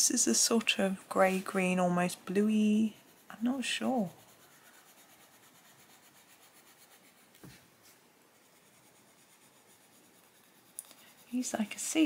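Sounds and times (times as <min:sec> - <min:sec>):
pencil scratching on paper: 0:00.3 - 0:12.0.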